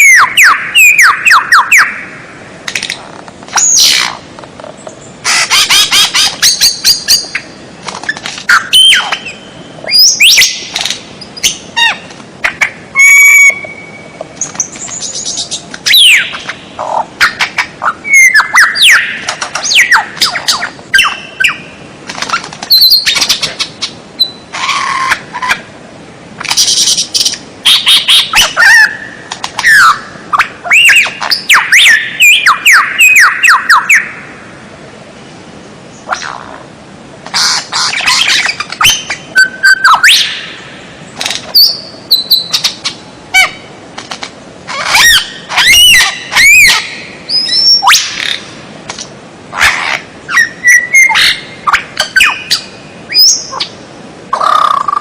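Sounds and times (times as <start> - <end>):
songbird chirps whistles and trills: 0.0 - 2.2, 4.8 - 25.6, 26.4 - 34.2, 37.3 - 43.7, 44.7 - 48.5, 49.6 - 53.8.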